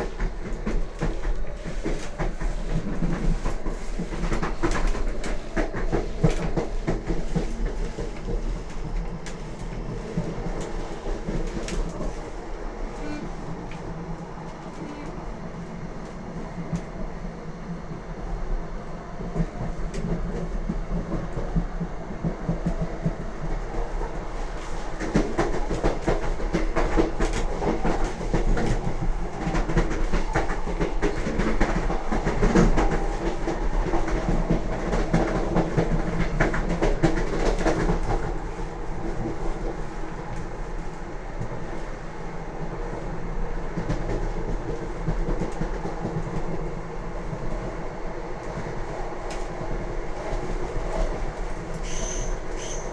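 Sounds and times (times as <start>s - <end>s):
train running rumble: 0.0s - 52.9s.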